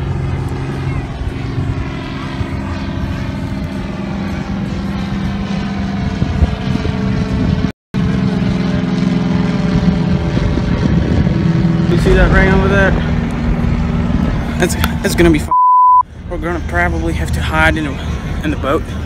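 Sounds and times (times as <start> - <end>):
propeller plane droning overhead: 0.0 - 19.0.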